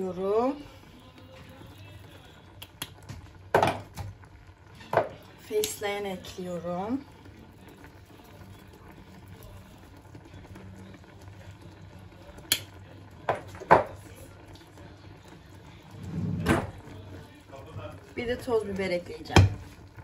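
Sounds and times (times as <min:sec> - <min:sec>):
sauce simmering in a pan: 0:00.0 - 0:20.0.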